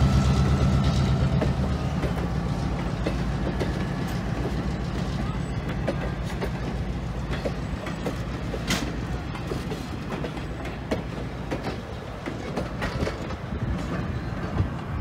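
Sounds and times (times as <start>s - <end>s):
train rumbling: 0.0s - 15.0s
train wheels clicking over rail joints: 0.0s - 15.0s.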